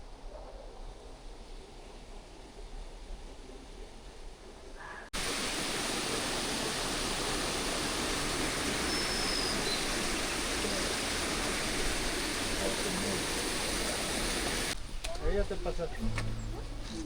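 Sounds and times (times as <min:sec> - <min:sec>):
rushing water hiss: 0:00.9 - 0:17.0.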